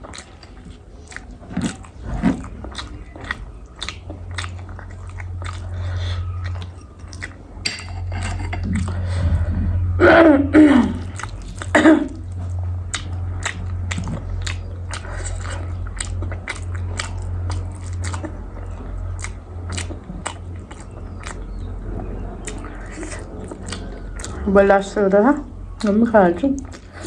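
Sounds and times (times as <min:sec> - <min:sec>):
chewing and biting food: 0:00.0 - 0:09.1, 0:11.0 - 0:24.4, 0:25.7 - 0:27.0
steady low hum: 0:00.0 - 0:27.0.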